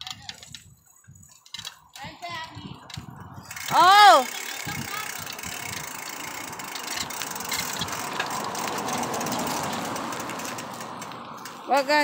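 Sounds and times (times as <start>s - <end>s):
bicycle freewheel ticking: 1.4s - 12.0s.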